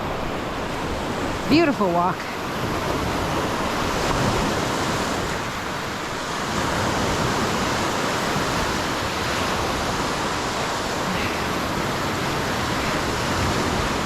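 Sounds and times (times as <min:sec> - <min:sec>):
waves washing onto shore: 0:00.0 - 0:14.0
wind: 0:00.0 - 0:14.0.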